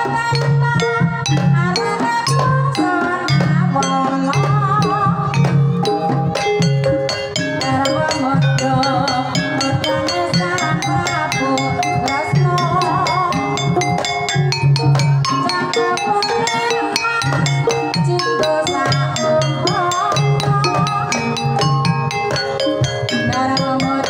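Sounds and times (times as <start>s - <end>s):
kettle gongs struck in patterns: 0.0s - 24.0s
woman singing: 0.0s - 24.0s.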